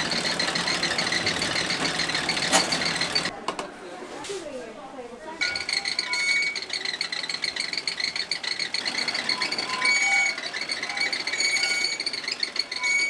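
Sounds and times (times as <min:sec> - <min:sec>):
dough-sheeting machine whining: 0:00.0 - 0:03.3, 0:05.4 - 0:13.0
short machine tones: 0:00.0 - 0:03.3, 0:05.4 - 0:13.0.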